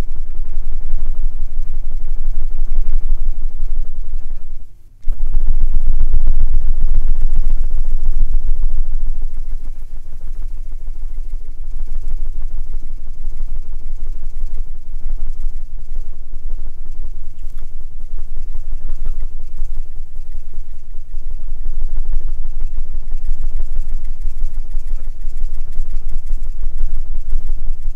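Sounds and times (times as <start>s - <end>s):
rapid low wing fluttering: 0.0s - 27.9s.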